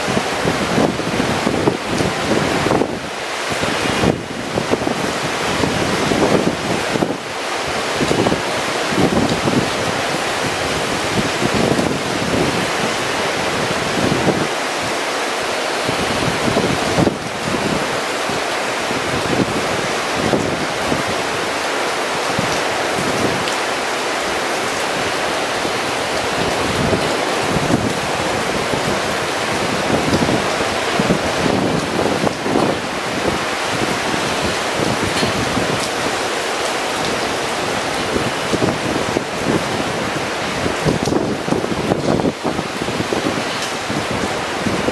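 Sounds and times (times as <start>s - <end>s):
heavy rain hissing: 0.0s - 44.9s
wind gusts buffeting microphone: 0.0s - 44.9s.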